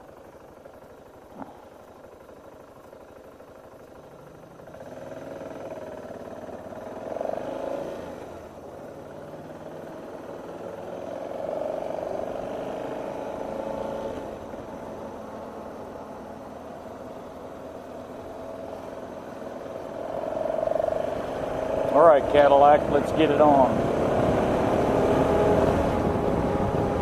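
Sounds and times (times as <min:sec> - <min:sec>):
road noise: 0:00.0 - 0:27.0
vehicle engine: 0:00.0 - 0:27.0.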